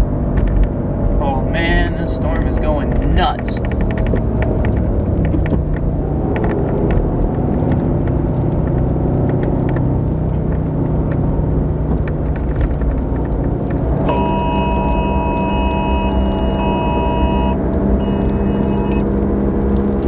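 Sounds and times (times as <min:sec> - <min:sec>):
road and engine rumble in car: 0:00.0 - 0:20.0
rain ticking on car: 0:00.4 - 0:20.0.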